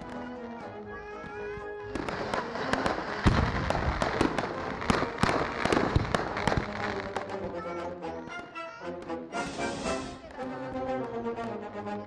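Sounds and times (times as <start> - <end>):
fireworks bangs and crackles: 0.0 - 11.8.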